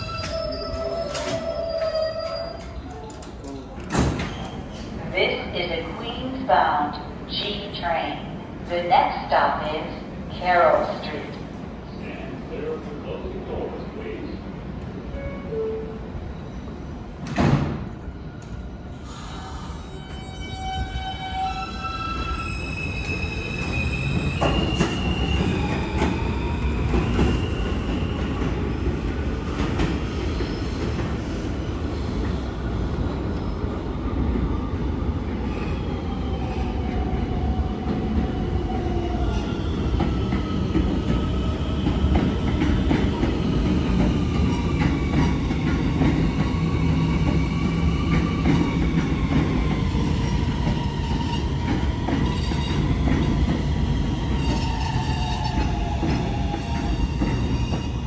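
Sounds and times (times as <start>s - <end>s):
train rumbling on steel track: 0.0s - 58.0s.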